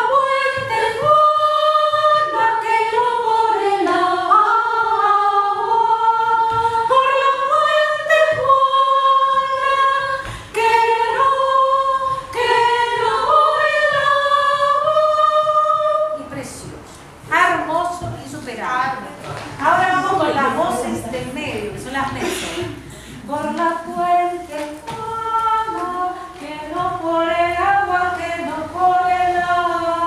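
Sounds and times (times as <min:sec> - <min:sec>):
women singing a cappella: 0:00.0 - 0:30.0.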